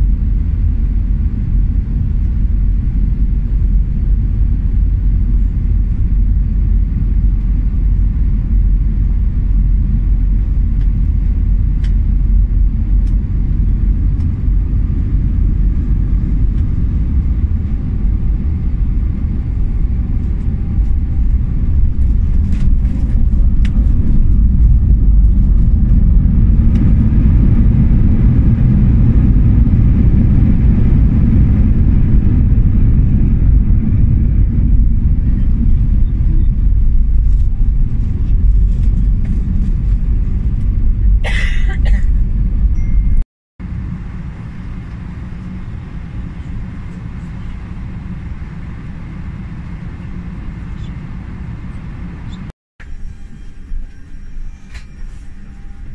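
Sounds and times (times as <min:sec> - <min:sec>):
aircraft cabin engine rumble: 0:00.0 - 0:55.9.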